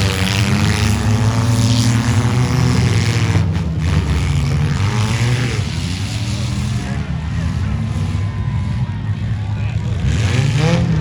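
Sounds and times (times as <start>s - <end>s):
mini-truck engines revving hard: 0.0s - 11.0s.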